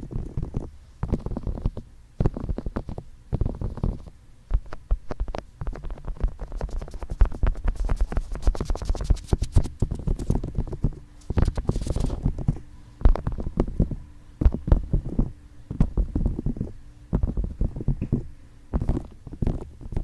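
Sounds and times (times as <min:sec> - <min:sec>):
fingertips tapping on microphone: 0:00.0 - 0:20.0.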